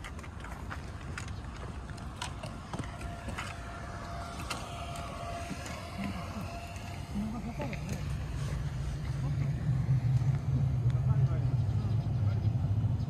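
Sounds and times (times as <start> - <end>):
low outdoor rumble: 0.0 - 13.0
thin steady hum: 0.0 - 13.0.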